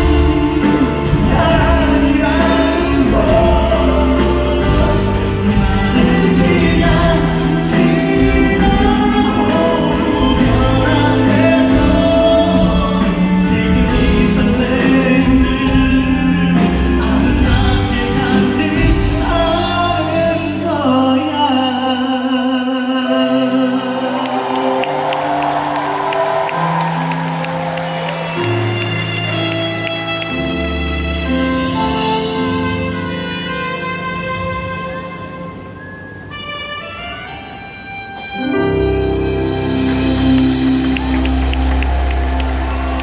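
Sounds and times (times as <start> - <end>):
live pop band with singing: 0.0 - 32.4, 39.8 - 43.0.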